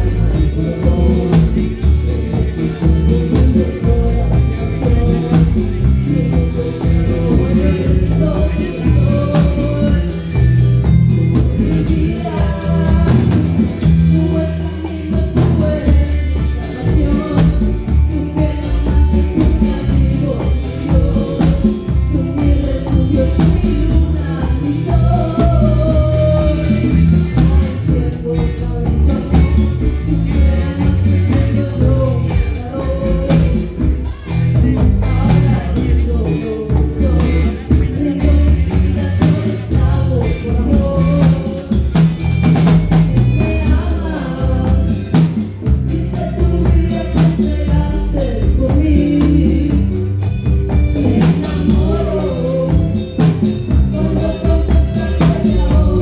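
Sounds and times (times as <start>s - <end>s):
live band playing: 0.0s - 56.0s
person singing: 0.0s - 56.0s.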